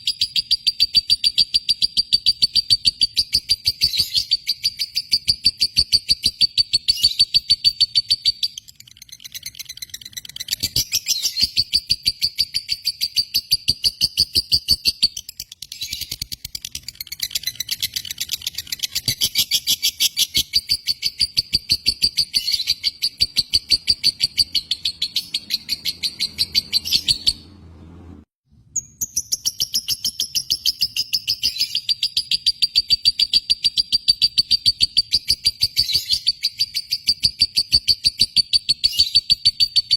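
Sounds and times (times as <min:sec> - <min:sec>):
lovebird chirping: 0:00.0 - 0:28.0, 0:28.8 - 0:39.9.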